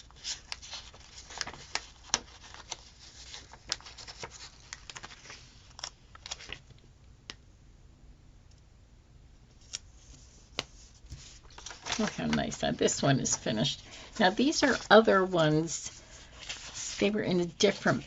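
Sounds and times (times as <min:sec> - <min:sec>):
paper rustling: 0:00.0 - 0:06.8, 0:09.6 - 0:18.0.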